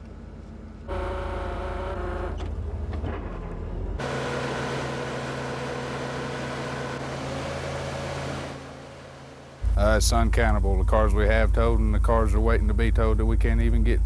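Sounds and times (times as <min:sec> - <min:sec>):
vehicle engines running: 0:00.0 - 0:14.0.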